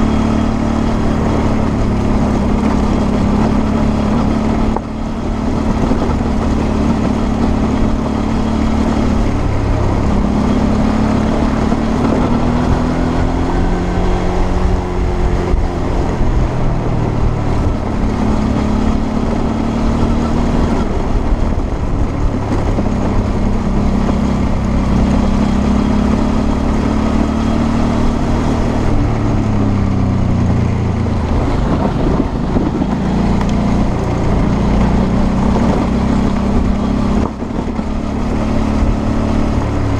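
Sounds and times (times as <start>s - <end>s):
motorcycle engine running: 0.0s - 39.9s
wind and tyre noise: 0.0s - 39.9s.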